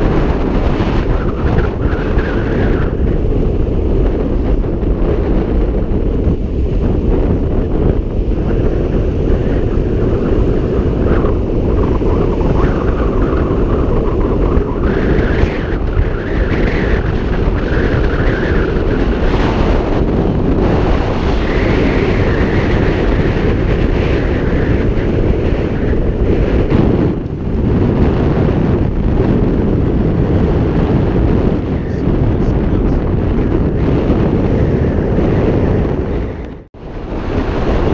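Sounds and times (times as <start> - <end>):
surf breaking on beach: 0.0 - 37.9
wind buffeting microphone: 0.0 - 37.9.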